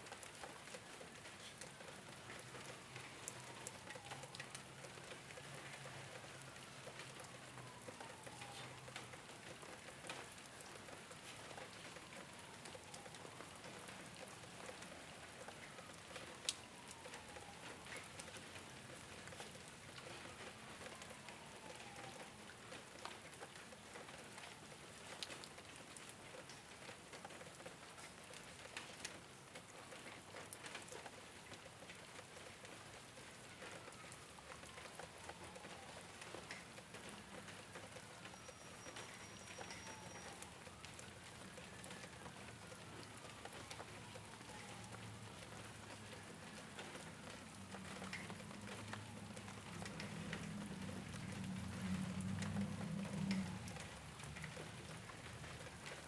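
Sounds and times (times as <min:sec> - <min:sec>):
rain pattering on a rooftop: 0:00.0 - 0:56.0.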